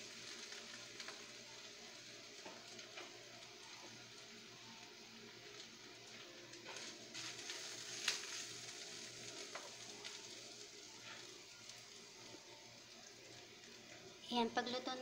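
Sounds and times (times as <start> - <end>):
garlic and onion sizzling in oil: 0.0 - 15.0.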